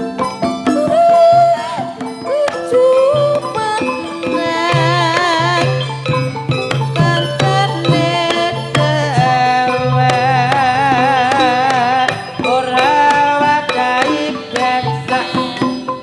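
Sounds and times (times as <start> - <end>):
hand drum strokes: 0.0 - 16.0
high wavering melody: 0.0 - 16.0.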